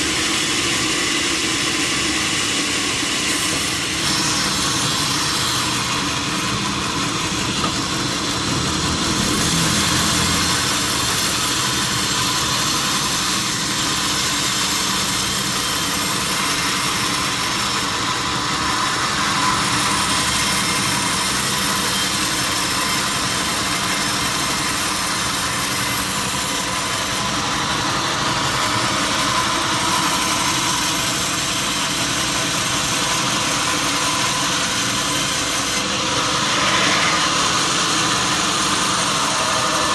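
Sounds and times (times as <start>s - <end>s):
sawmill saw hissing: 0.0s - 39.9s.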